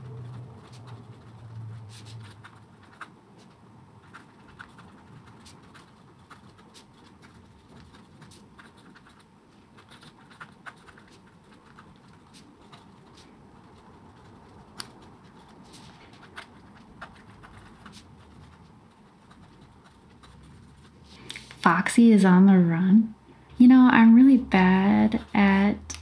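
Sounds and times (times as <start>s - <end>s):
pen nib scratching paper: 0.0s - 21.2s.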